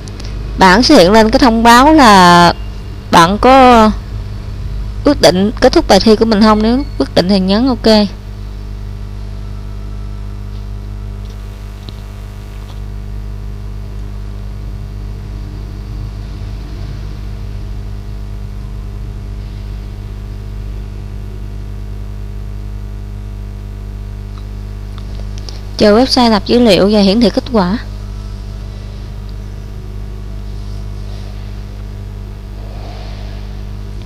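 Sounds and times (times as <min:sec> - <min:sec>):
low hum with faint hiss: 0:00.0 - 0:34.0.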